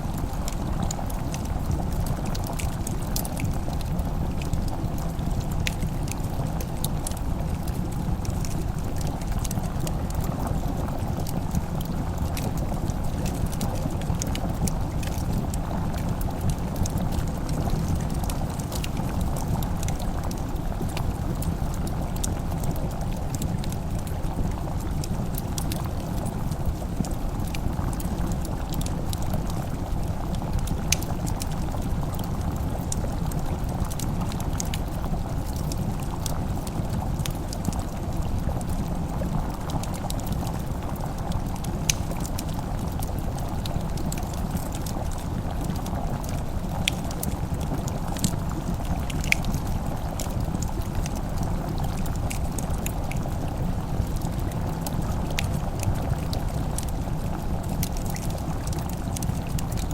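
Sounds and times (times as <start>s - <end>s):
pot simmering and bubbling: 0.0s - 59.9s
wood fire crackling and popping: 0.0s - 59.9s.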